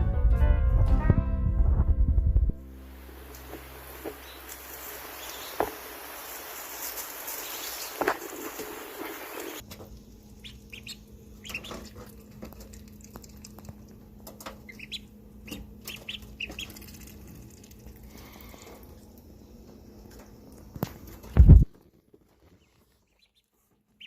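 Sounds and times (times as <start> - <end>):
faint steady hum: 2.3 - 24.0
ducklings peeping: 3.3 - 9.6, 10.2 - 24.0.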